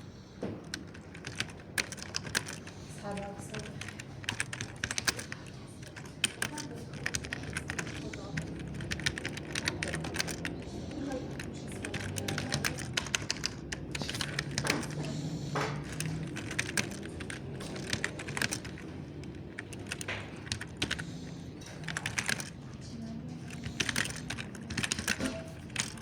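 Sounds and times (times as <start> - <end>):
mechanical keyboard typing: 0.1 - 26.0.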